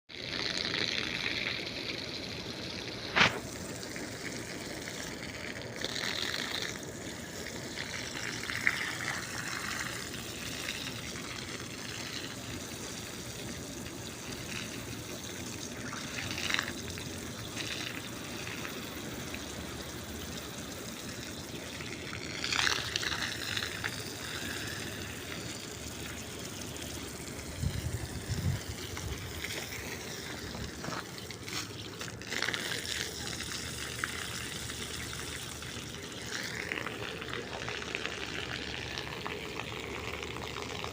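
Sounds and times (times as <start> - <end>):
water gushing under pressure: 0.1 - 40.9.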